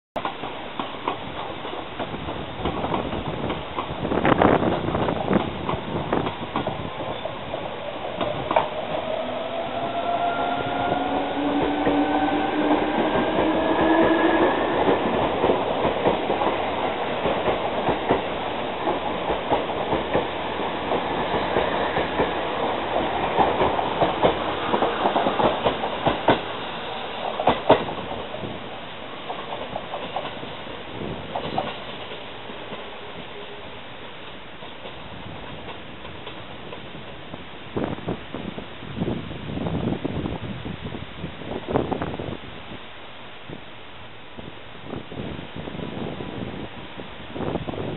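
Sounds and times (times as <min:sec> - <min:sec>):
electric train rumbling: 0:00.2 - 0:47.9.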